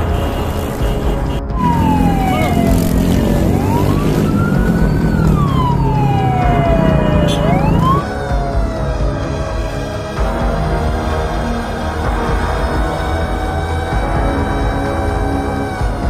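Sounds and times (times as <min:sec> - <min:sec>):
background music: 0:00.0 - 0:16.0
emergency vehicle siren wailing: 0:00.0 - 0:16.0.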